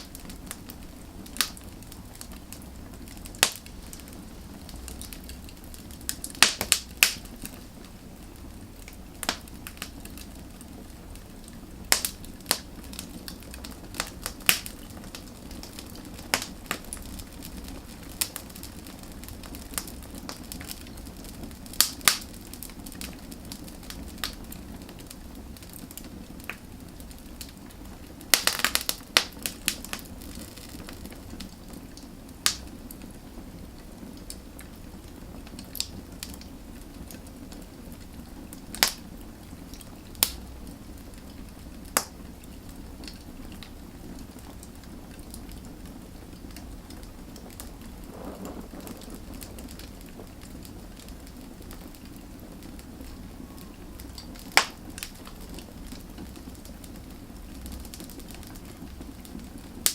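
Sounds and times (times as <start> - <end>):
firewood crackling and popping: 0.0 - 59.9
low hiss of flame: 0.0 - 59.9.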